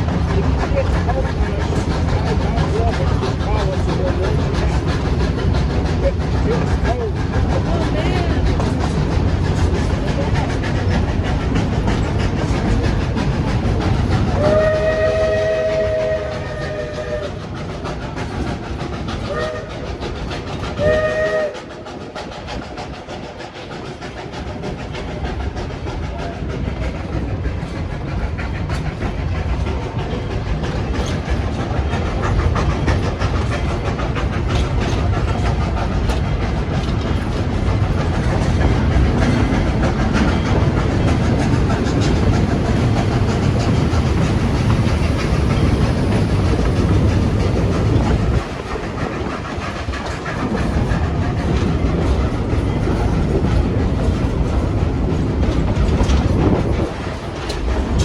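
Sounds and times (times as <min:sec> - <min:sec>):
train rolling on track: 0:00.0 - 0:58.0.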